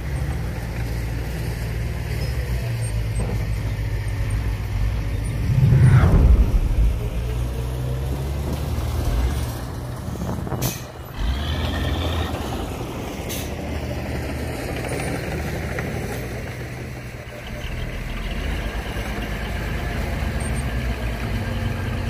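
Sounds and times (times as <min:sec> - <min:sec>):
diesel truck engine under load: 0:00.0 - 0:22.0.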